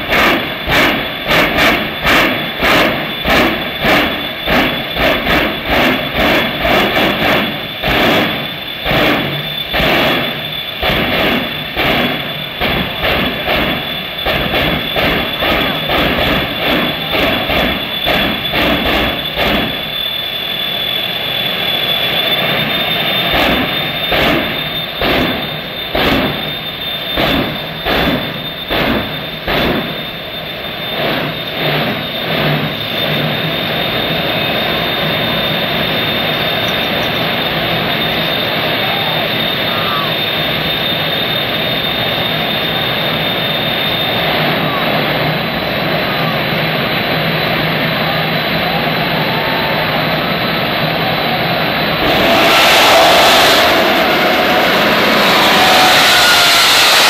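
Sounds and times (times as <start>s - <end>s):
jet engines whining in pulses: 0.0s - 57.0s.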